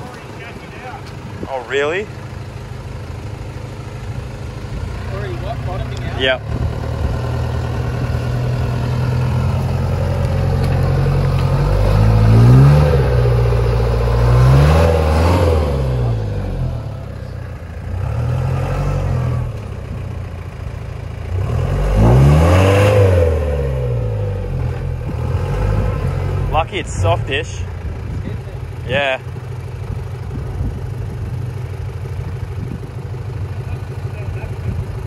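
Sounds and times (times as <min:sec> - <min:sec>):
truck bottoming out: 0:00.0 - 0:35.0
truck engine revving: 0:03.1 - 0:35.0.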